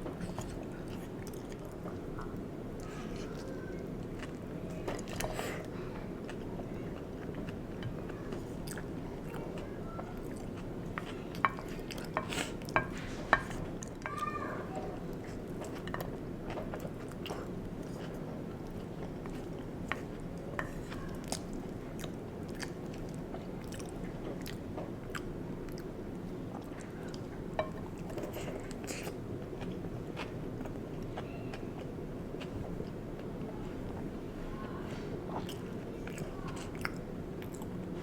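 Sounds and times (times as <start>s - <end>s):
close chewing with mouth sounds: 0.0s - 38.0s
low background hum: 0.0s - 38.0s.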